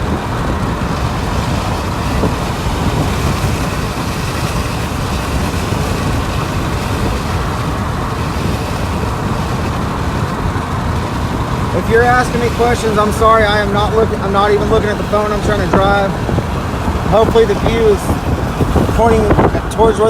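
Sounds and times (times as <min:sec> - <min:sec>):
car wind and road noise: 0:00.0 - 0:20.0.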